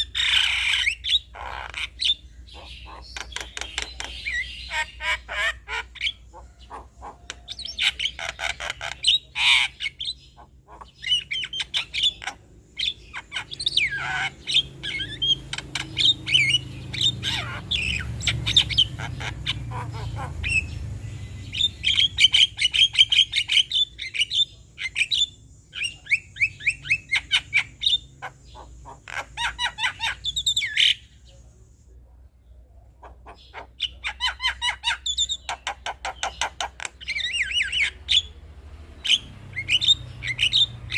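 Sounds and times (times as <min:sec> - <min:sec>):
myna bird chattering song: 0:00.0 - 0:40.9.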